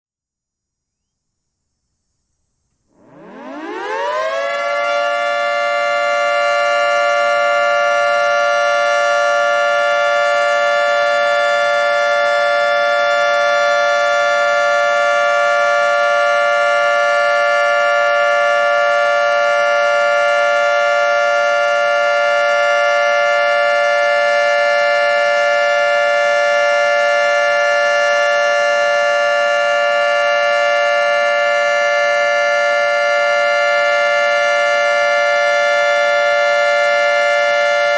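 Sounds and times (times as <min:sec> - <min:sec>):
dual-tone warning siren: 0:02.8 - 0:37.9.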